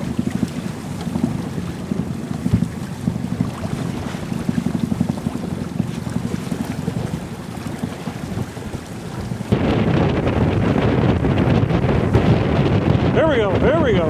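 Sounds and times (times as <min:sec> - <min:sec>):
water rushing past hull: 0:00.0 - 0:14.0
wind buffeting microphone: 0:00.0 - 0:14.0.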